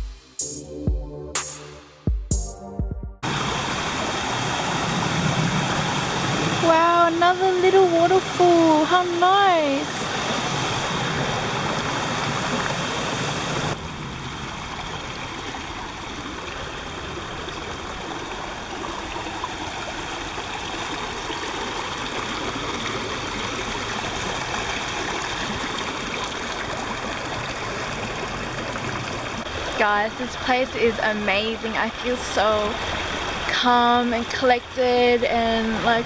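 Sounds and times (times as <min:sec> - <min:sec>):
waterfall rushing: 0:03.2 - 0:33.5
creek running over rocks: 0:03.2 - 0:36.0.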